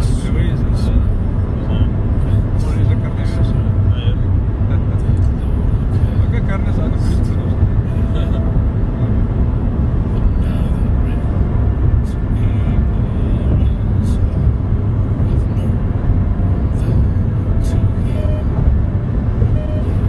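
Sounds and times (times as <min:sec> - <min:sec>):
car tyre and engine rumble: 0:00.0 - 0:20.0.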